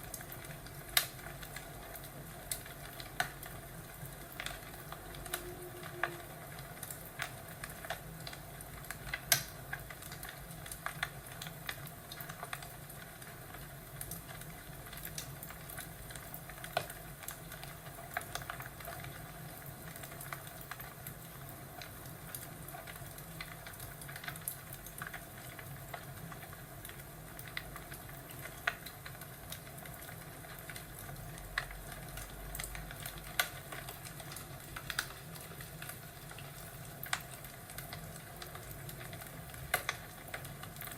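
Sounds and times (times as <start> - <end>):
fireplace crackling: 0.0 - 40.9.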